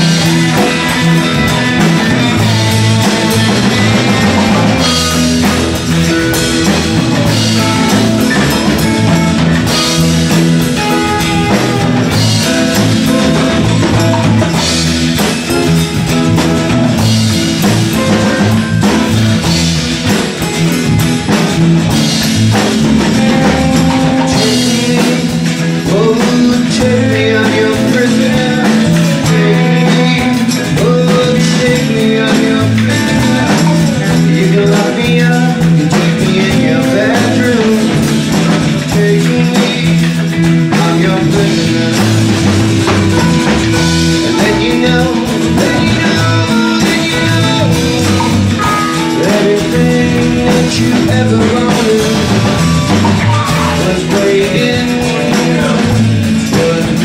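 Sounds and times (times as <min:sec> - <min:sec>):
drum kit: 0:00.0 - 0:57.0
electric guitar: 0:00.0 - 0:57.0
low bass notes: 0:00.0 - 0:57.0.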